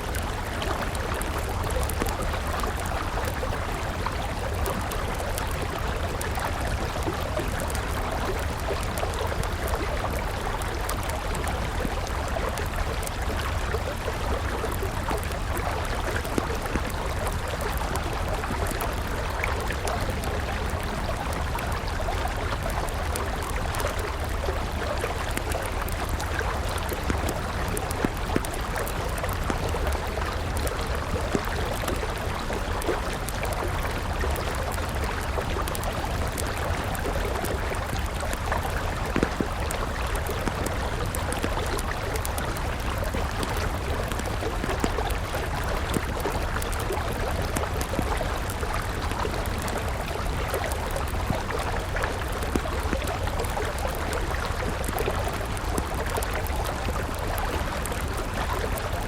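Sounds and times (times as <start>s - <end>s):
river flowing: 0.0s - 59.0s
wood fire crackling: 0.0s - 59.0s.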